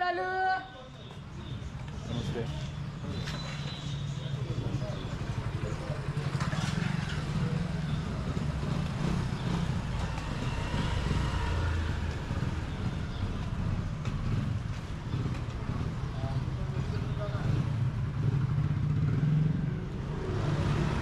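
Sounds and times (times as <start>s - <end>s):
motorcycle engines passing: 0.2s - 21.0s.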